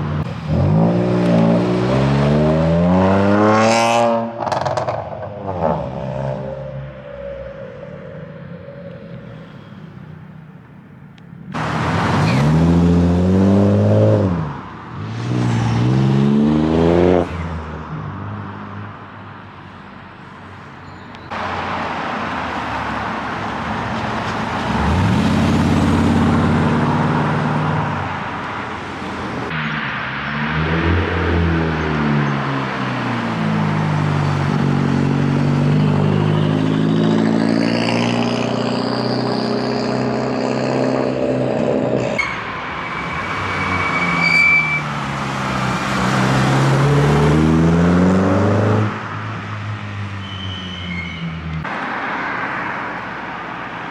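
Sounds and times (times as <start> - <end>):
car engines revving: 0.0 - 53.9.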